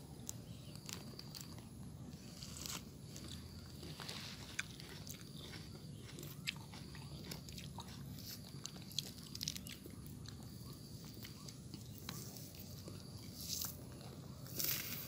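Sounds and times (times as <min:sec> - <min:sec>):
monkey chewing fruit: 0:00.8 - 0:14.9.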